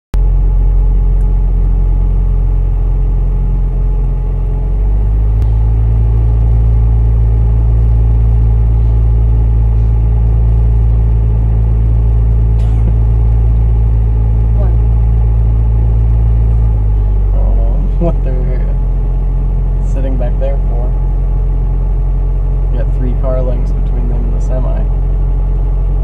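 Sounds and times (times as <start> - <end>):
car engine idling: 0.2 - 26.0.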